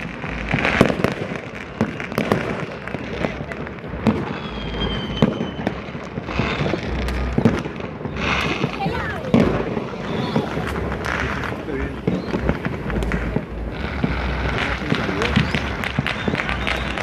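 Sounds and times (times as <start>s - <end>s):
fireworks and firecrackers banging: 0.0s - 17.0s
high firework whistle: 0.0s - 17.0s.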